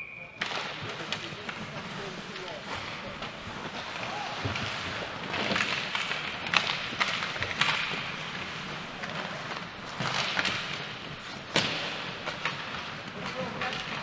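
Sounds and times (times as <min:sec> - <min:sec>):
hockey sticks and puck knocking: 0:00.3 - 0:14.0.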